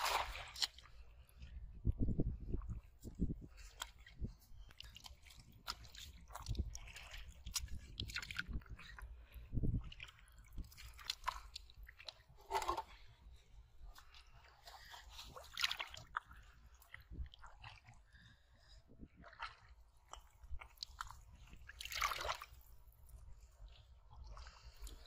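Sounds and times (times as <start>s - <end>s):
hands squelching in wet mud: 0.0s - 13.2s, 13.8s - 25.0s.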